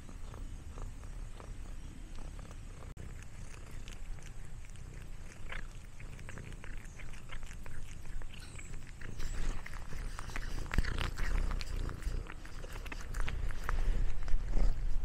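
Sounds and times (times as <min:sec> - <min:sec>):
cat licking and chewing: 0:00.0 - 0:15.0
cat purring: 0:00.0 - 0:15.0.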